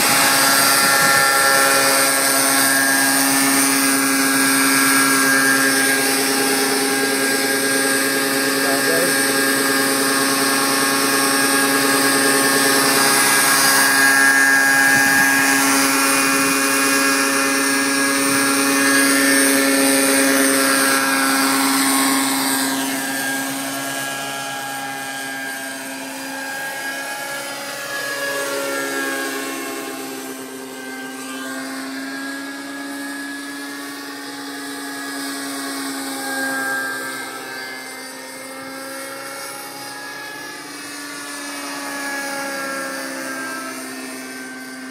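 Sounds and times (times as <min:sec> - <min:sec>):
model helicopter rotor whine: 0:00.0 - 0:44.9.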